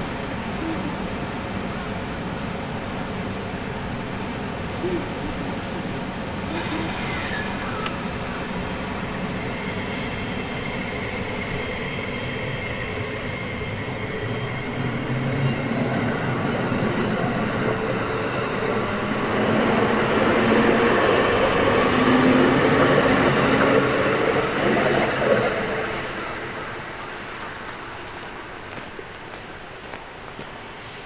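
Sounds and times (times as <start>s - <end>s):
electric train accelerating: 5.5s - 31.0s.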